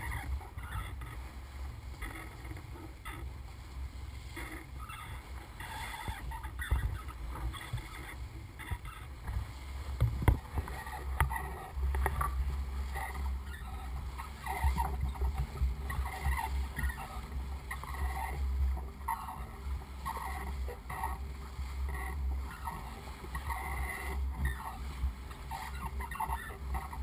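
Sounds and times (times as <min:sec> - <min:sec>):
low rumble: 0:00.0 - 0:27.0
water rushing and splashing: 0:00.0 - 0:27.0.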